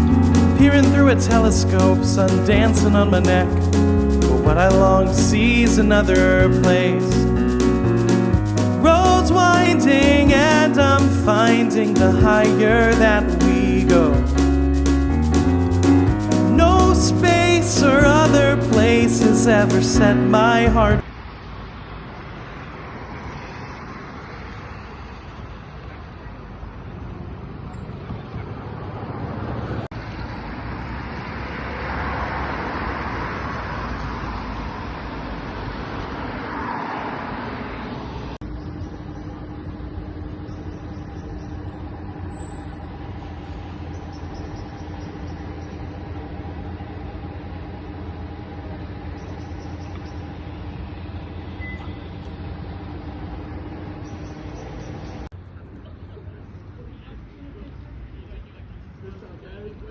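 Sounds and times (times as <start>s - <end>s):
vehicle passing: 0.0s - 55.3s
engine hum: 0.0s - 59.9s
road traffic noise: 0.0s - 59.9s.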